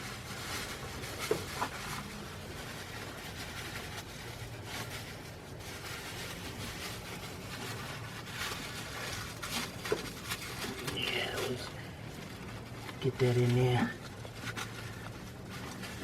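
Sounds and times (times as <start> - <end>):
plastic rustling and handling: 0.0 - 16.0
steady low hum: 0.0 - 16.0.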